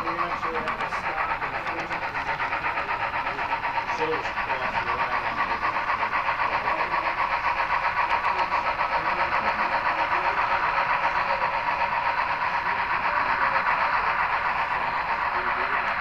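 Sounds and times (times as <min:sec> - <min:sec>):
model train humming: 0:00.0 - 0:16.0.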